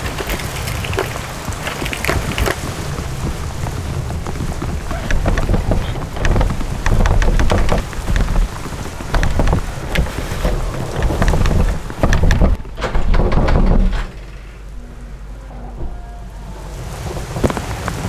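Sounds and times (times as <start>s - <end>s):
rain falling: 0.0s - 18.0s
steady low rumble: 2.7s - 17.7s.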